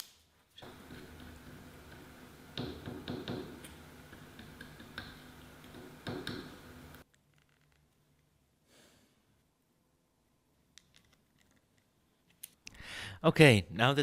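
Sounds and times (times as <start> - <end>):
faint steady hum: 0.6 - 13.2.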